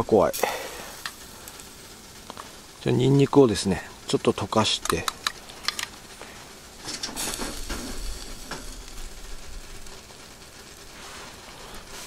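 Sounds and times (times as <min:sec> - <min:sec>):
low sizzle of cooking: 0:00.0 - 0:12.0.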